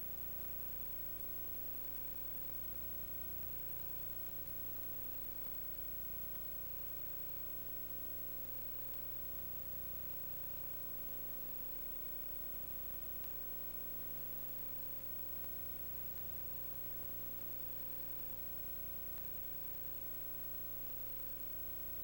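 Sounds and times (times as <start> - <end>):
background hiss: 0.0 - 22.0
steady hum: 0.0 - 22.0.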